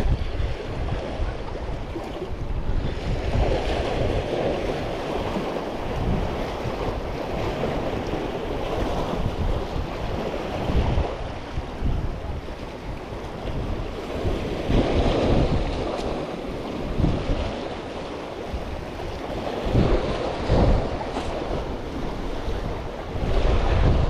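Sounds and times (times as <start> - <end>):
ocean waves breaking: 0.0 - 24.0
wind buffeting microphone: 0.0 - 24.0.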